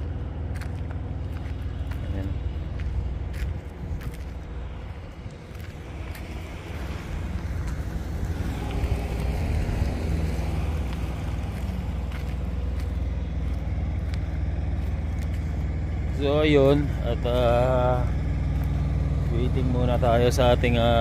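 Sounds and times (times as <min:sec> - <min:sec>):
large vehicle engine idling: 0:00.0 - 0:21.0.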